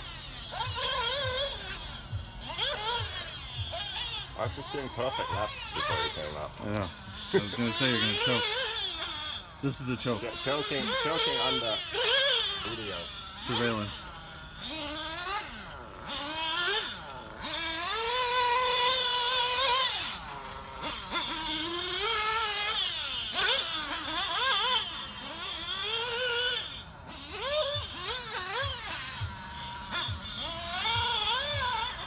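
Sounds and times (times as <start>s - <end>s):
model car engine revving: 0.0s - 32.0s.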